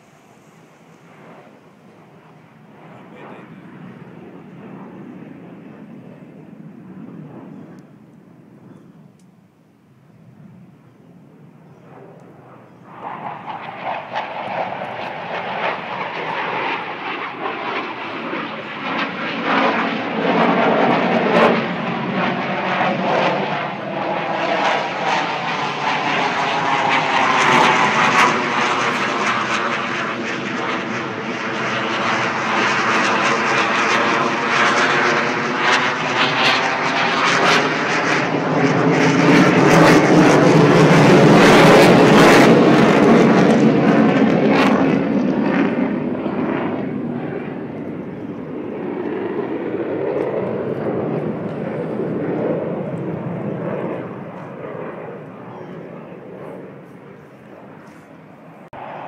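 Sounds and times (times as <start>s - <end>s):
jet aircraft flying overhead: 0.0s - 59.0s.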